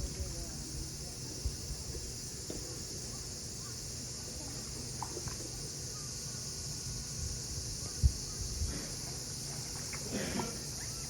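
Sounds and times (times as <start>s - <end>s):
cicadas chorus: 0.0s - 11.0s.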